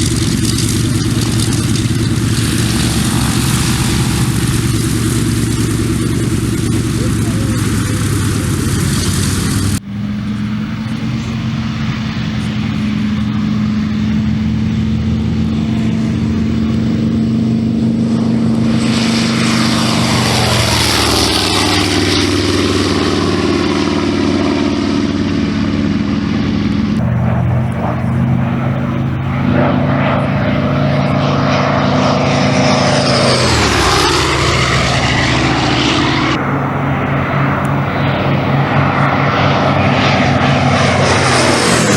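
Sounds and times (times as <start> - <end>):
aircraft radial engine running: 0.0 - 41.9.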